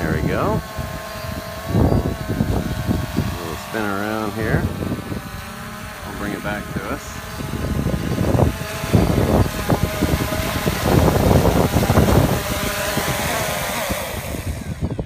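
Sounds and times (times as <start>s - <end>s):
drone propellers buzzing: 0.0s - 15.0s
wind buffeting microphone: 0.0s - 15.0s.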